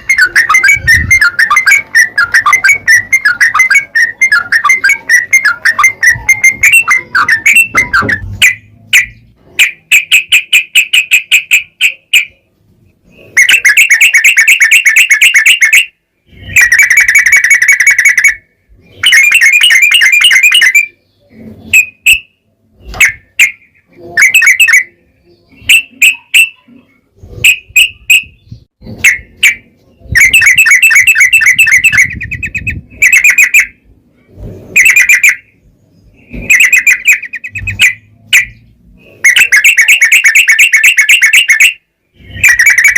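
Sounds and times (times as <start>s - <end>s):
bird singing rolling trills: 0.0s - 33.9s, 34.6s - 42.9s.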